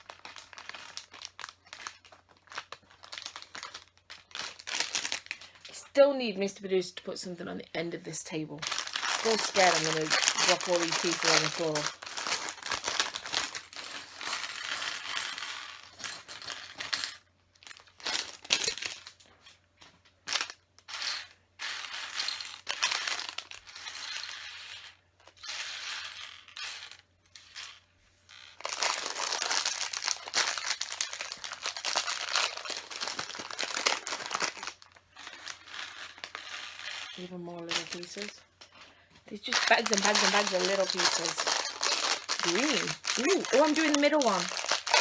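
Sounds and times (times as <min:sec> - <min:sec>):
small plastic pieces clattering: 0:00.0 - 0:05.7, 0:08.6 - 0:19.2, 0:20.2 - 0:45.0
plastic bags crinkling: 0:00.0 - 0:05.8, 0:08.2 - 0:19.6, 0:20.2 - 0:24.4, 0:28.4 - 0:45.0.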